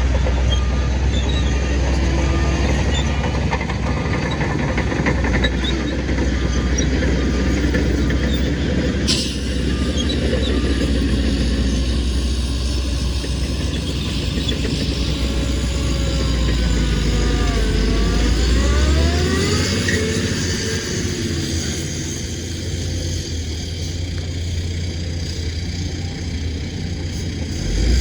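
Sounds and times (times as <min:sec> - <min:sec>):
reversing alarm beeping: 0:00.0 - 0:23.4
diesel machinery engine drone: 0:00.0 - 0:28.0.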